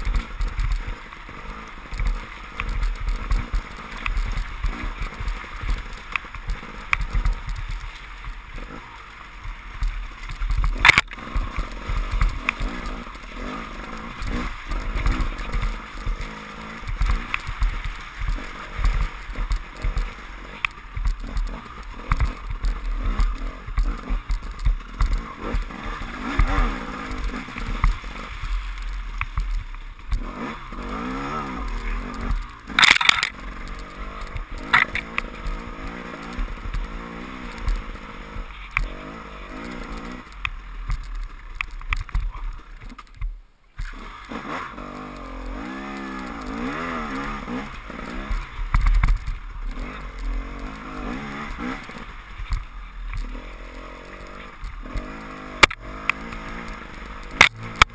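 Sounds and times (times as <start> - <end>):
motorcycle engine revving: 0.0 - 57.9
knocks and scrapes from ground: 1.8 - 57.9.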